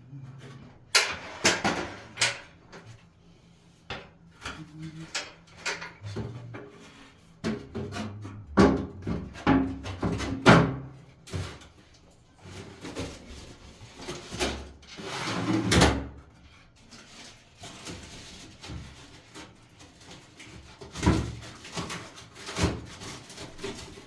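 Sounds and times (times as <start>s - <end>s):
knocks and clatters of handling: 3.8s - 15.0s, 15.6s - 24.0s.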